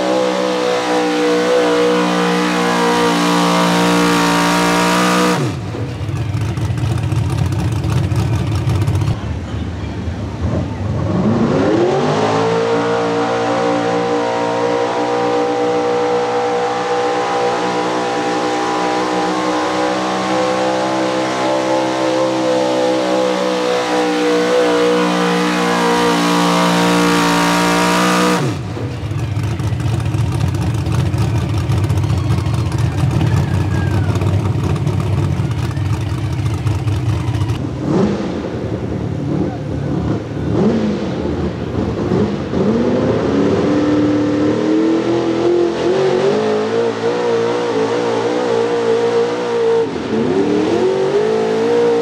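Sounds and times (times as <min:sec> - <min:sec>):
truck engine revving under load: 0:00.0 - 0:06.7, 0:11.0 - 0:52.0.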